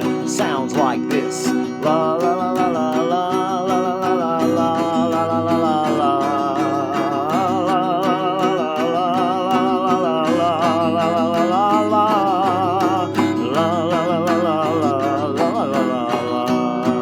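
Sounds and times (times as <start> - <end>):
guitar and sustained chords: 0.0 - 17.0
vibrato lead melody: 0.0 - 17.0.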